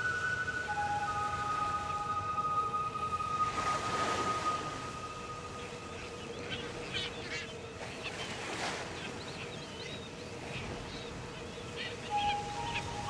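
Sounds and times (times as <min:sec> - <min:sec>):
faint background music: 0:00.0 - 0:13.0
seabirds calling: 0:00.0 - 0:13.0
surf washing: 0:00.0 - 0:13.0.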